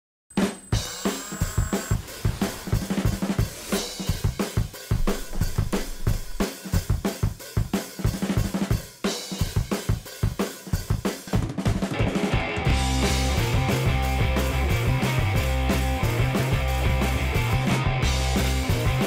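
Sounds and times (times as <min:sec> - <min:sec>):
music with drum-kit beat: 0:00.3 - 0:19.0.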